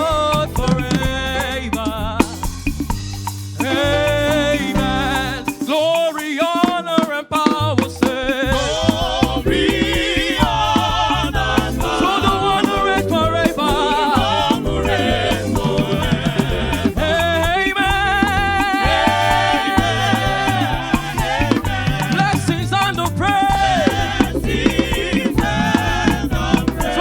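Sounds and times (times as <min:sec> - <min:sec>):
singers singing praise music: 0:00.0 - 0:02.7, 0:03.6 - 0:27.0
bass guitar: 0:00.0 - 0:06.2, 0:07.6 - 0:27.0
drums steady beat: 0:00.0 - 0:27.0.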